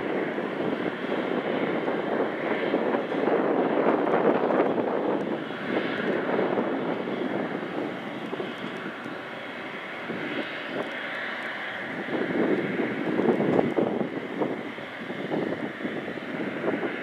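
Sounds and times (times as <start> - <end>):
jet engines roaring on takeoff: 0.0 - 17.0.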